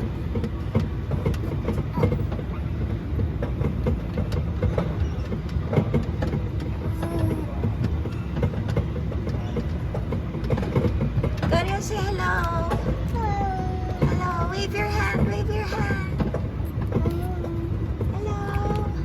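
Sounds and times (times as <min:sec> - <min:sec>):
ride train rumbling and rattling: 0:00.0 - 0:19.0.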